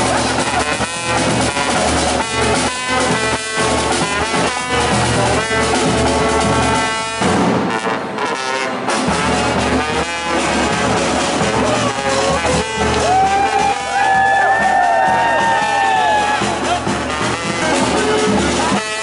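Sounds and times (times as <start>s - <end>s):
upbeat music with horns: 0.0s - 19.0s.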